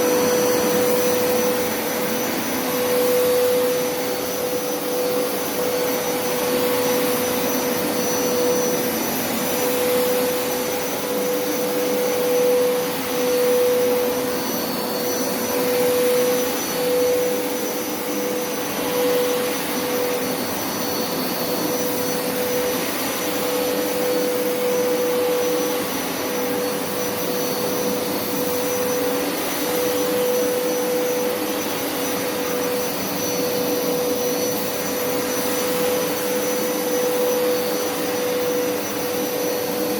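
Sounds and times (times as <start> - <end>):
carpet washer motor hum: 0.0 - 39.9.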